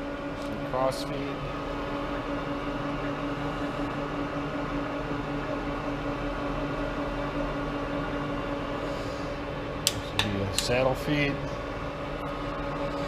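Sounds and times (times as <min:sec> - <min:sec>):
lathe running with steady hum: 0:00.0 - 0:13.0.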